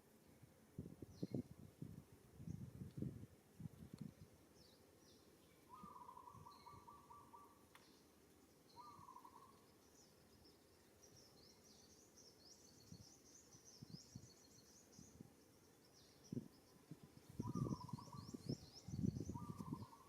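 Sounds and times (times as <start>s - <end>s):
small birds chirping: 0.0s - 1.5s, 3.8s - 20.0s.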